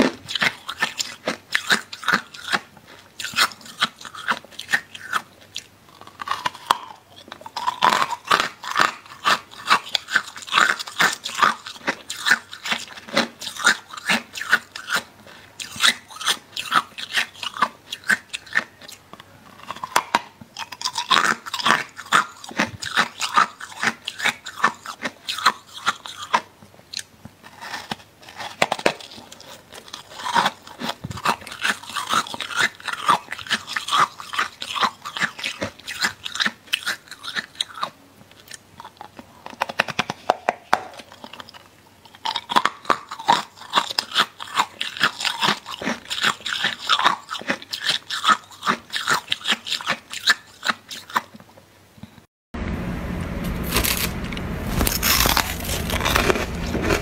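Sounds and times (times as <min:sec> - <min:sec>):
frost crunching being chewed: 0:00.0 - 0:52.2, 0:53.5 - 0:57.0.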